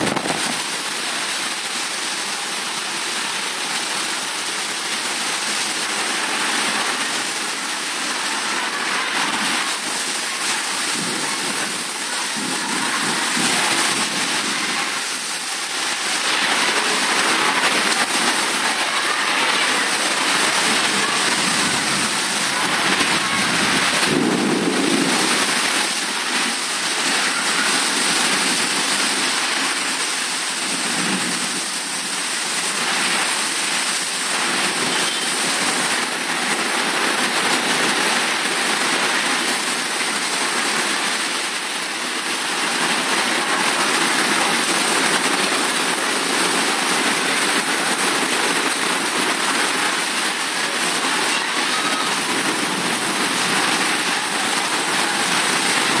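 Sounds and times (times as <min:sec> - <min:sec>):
heavy rain on plastic roof: 0:00.0 - 0:56.0.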